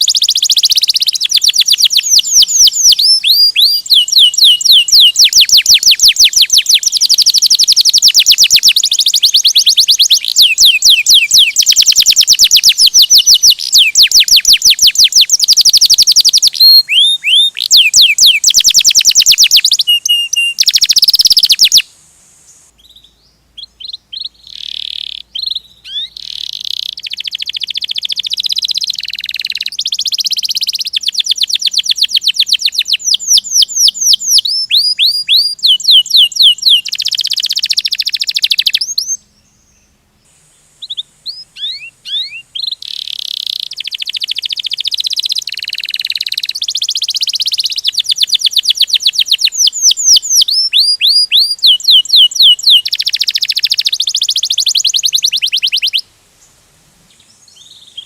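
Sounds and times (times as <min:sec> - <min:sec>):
canary singing trills: 0:00.0 - 0:21.9, 0:22.5 - 0:40.0, 0:40.6 - 0:58.0.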